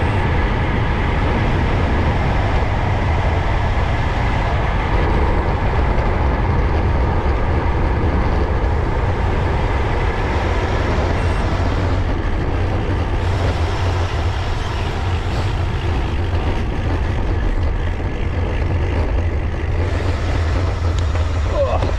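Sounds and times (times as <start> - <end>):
bicycle tyre road noise: 0.0 - 21.9
wind buffeting microphone: 0.0 - 21.9.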